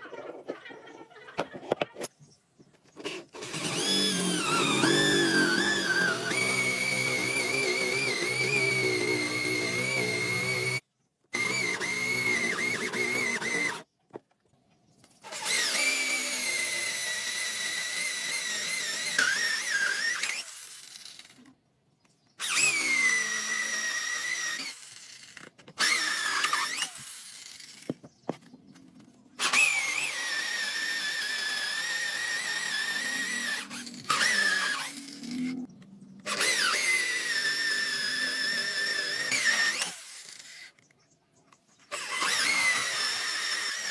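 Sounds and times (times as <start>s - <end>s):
power tool motor whine: 3.0s - 10.8s, 11.4s - 13.8s, 15.2s - 21.4s, 22.4s - 28.0s, 29.4s - 40.8s, 41.9s - 43.9s.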